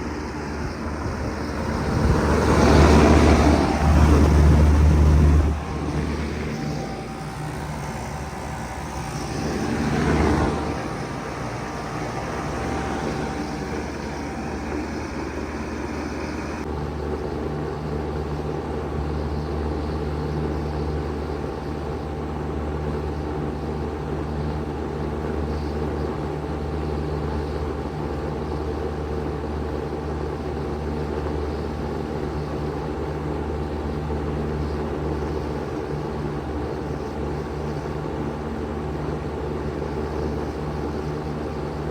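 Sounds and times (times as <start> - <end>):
heat pump humming: 0.0 - 41.9.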